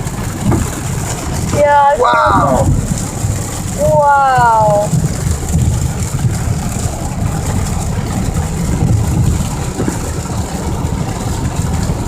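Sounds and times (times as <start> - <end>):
hiss of tyre spray and rain: 0.0 - 12.0
road and engine rumble: 0.0 - 12.0.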